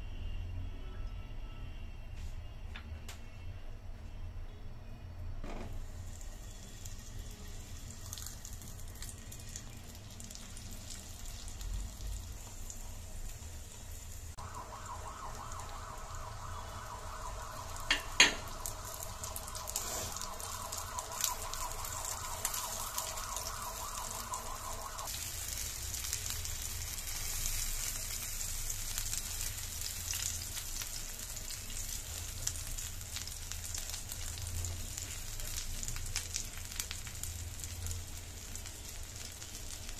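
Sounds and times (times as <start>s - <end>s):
oil sizzling in frying pan: 5.7s - 39.9s.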